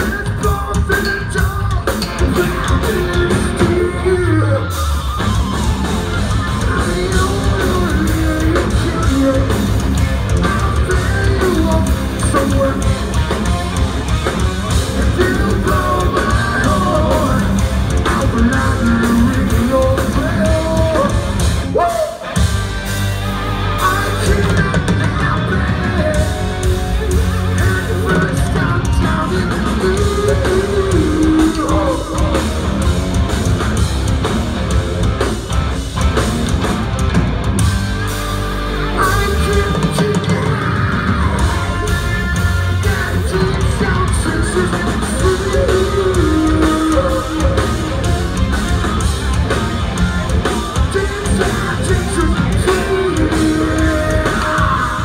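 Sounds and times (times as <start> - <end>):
person singing and shouting: 0.0 - 13.0, 14.9 - 22.4, 23.7 - 32.8, 38.9 - 48.3, 50.0 - 55.0
hard rock band playing: 0.0 - 55.0.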